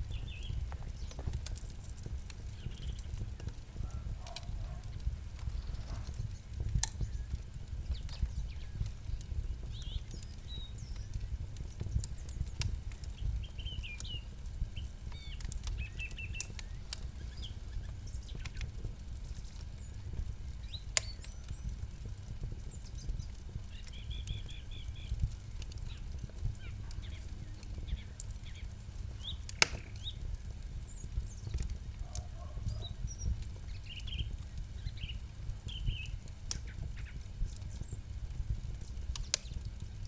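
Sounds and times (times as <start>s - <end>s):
campfire crackling and popping: 0.0s - 40.0s
small birds chirping: 0.0s - 40.0s.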